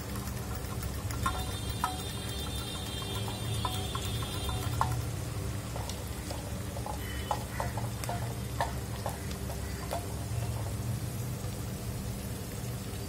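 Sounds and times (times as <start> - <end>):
wet squelching and sloshing: 0.0 - 12.9.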